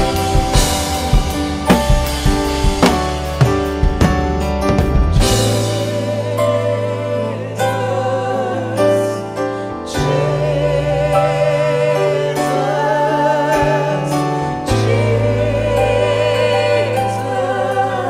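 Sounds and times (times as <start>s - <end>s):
worship team singing: 0.0s - 3.0s, 5.1s - 18.0s
instrumental backing: 0.0s - 18.0s.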